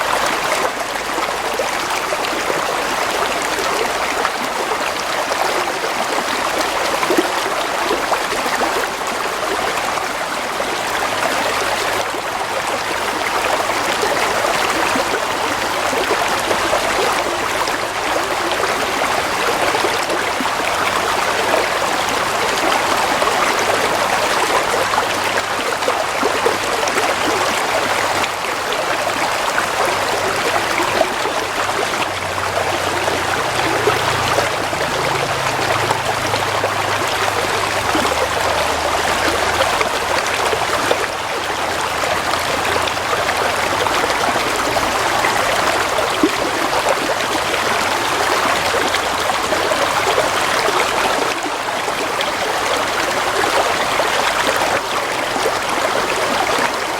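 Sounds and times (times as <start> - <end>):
stream trickling: 0.0 - 56.9.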